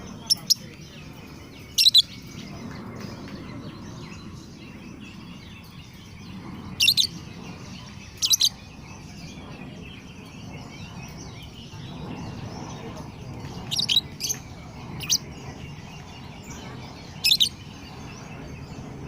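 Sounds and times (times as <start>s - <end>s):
lovebird chirping: 0.0s - 19.0s.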